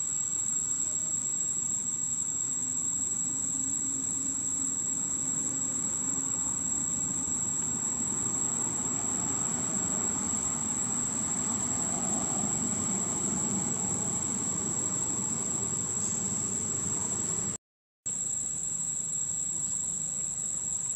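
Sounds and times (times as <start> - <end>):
high-pitched insect drone: 0.0 - 20.9.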